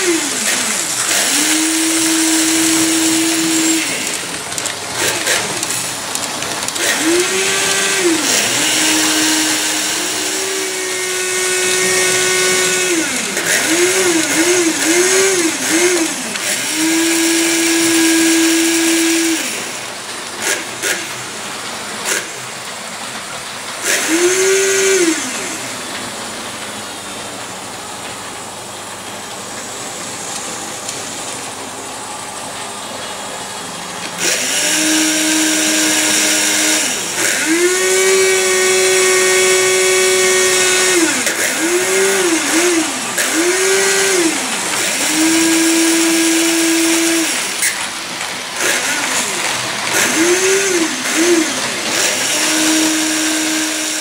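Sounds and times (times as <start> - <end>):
small electric motors whining: 0.0 - 21.4, 22.0 - 22.5, 23.8 - 25.8, 34.1 - 54.0.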